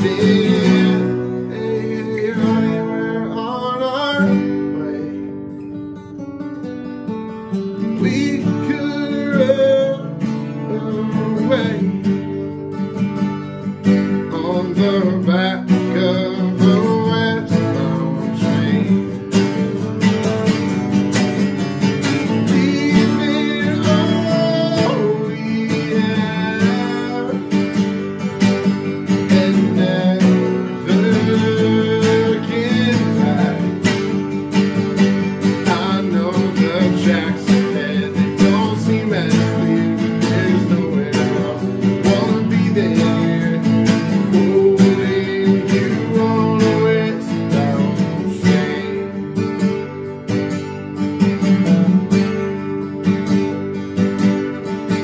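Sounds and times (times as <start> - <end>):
acoustic guitars strummed and picked: 0.0 - 55.0.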